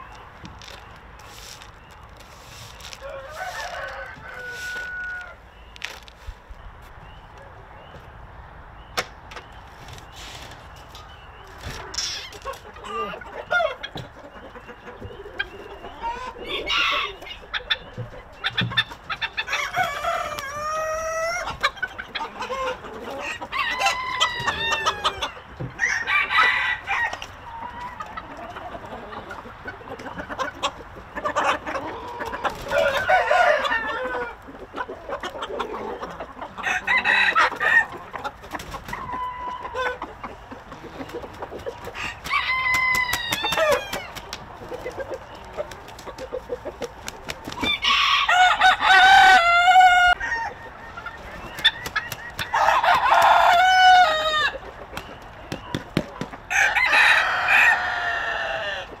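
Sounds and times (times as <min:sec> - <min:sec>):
roosters crowing: 0:00.0 - 0:06.0, 0:11.5 - 0:59.0
hens clucking: 0:00.0 - 0:59.0.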